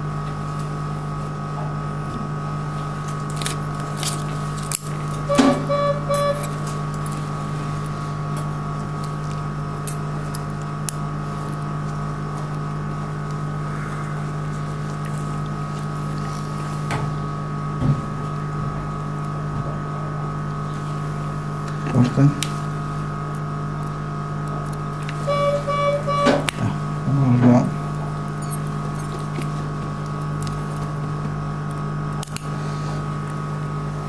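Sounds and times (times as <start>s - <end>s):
machine hum with held tones: 0.0s - 34.0s.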